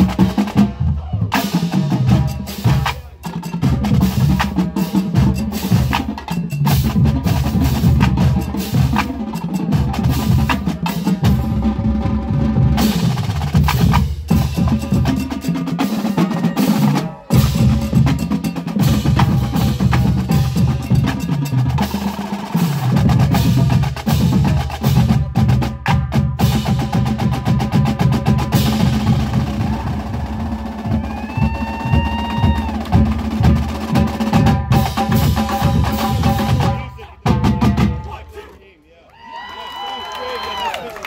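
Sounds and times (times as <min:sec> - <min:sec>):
marching drumline playing: 0:00.0 - 0:38.7.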